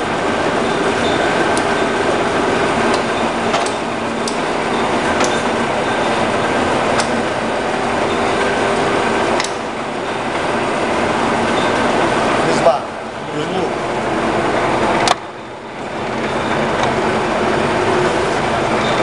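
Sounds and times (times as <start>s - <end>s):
lathe whirring: 0.0s - 19.0s.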